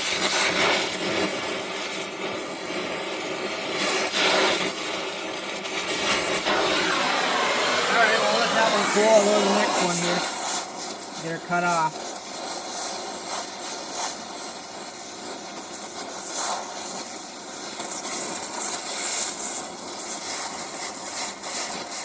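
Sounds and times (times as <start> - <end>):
cutting torch flame hissing: 0.0 - 22.0.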